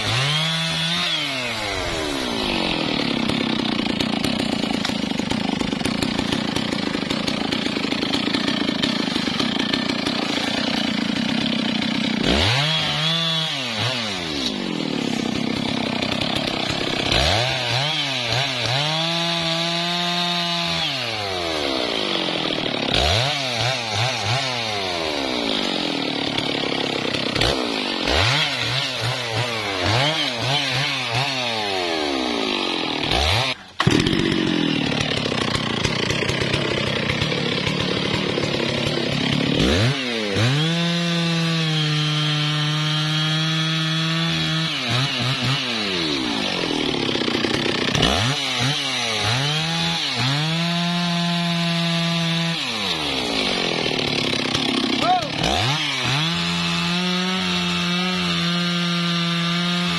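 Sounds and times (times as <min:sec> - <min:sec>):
chainsaw revving and cutting wood: 0:00.0 - 0:59.9.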